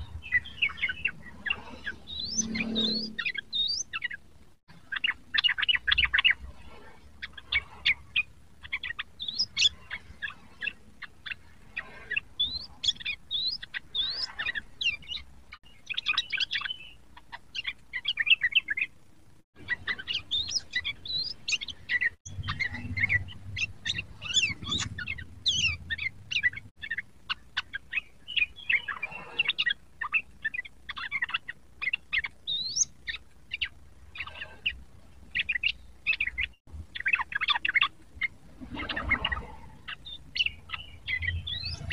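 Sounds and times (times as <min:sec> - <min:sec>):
bird chattering song: 0:00.0 - 0:19.0, 0:19.6 - 0:41.9.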